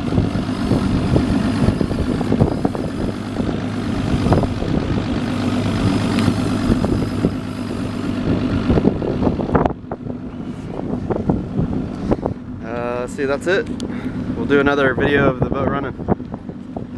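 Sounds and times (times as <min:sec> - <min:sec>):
outboard engine idling: 0:00.0 - 0:16.9.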